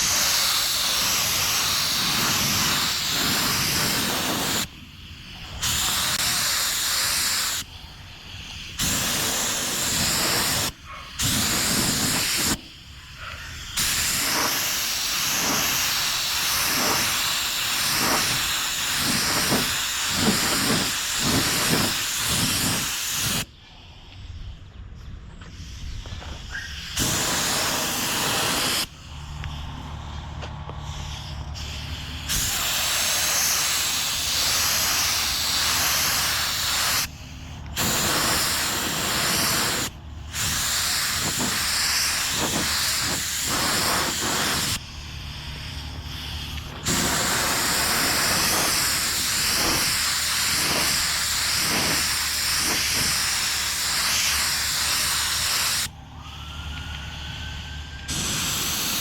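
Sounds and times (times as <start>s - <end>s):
spray gun hissing: 0.0s - 12.9s, 13.6s - 23.5s, 25.5s - 30.2s, 30.8s - 55.9s, 57.2s - 59.0s
steady low hum: 0.0s - 59.0s.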